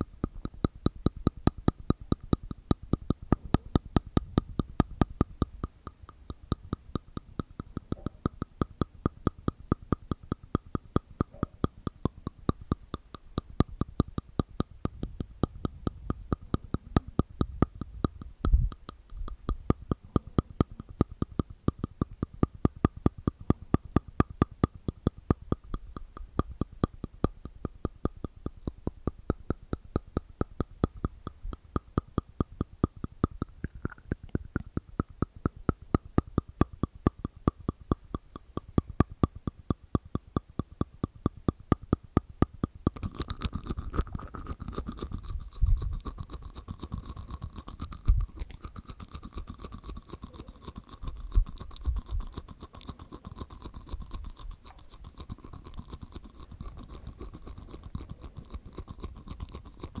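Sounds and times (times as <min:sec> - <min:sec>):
low mouth thumps: 0:00.0 - 1:00.0
tongue and teeth clicks: 0:00.0 - 1:00.0.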